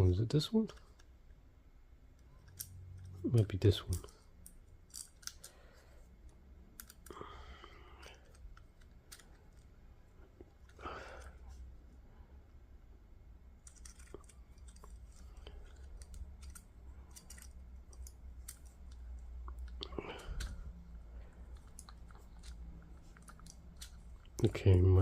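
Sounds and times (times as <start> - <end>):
small parts clicking and rattling: 0.5 - 1.4, 2.1 - 11.5, 13.5 - 25.0.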